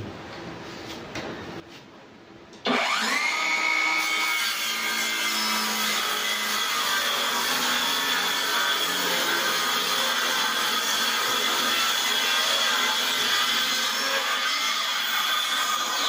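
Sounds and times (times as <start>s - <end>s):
circular saw cutting plywood: 2.6s - 16.0s.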